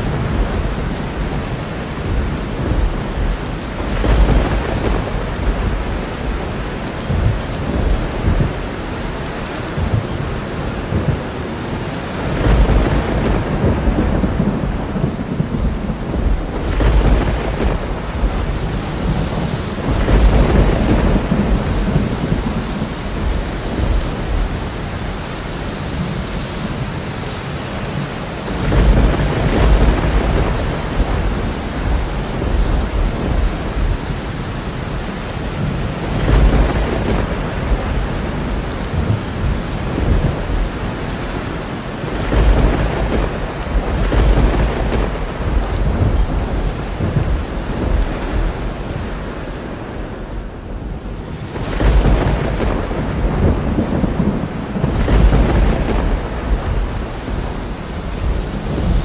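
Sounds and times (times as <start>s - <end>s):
heavy rain: 0.0s - 59.0s
rolling thunder: 0.0s - 59.0s.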